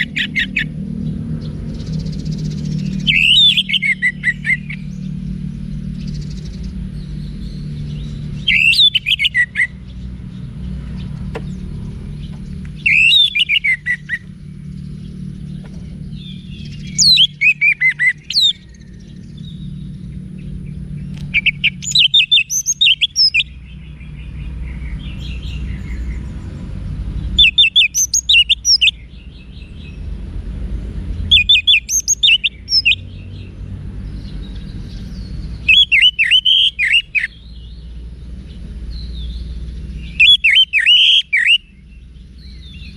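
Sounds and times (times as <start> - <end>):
low steady hum: 0.0 - 40.8
thrush whistling song: 1.6 - 10.0, 12.3 - 26.3, 27.2 - 30.0, 31.2 - 33.5, 34.2 - 38.0, 38.9 - 42.9.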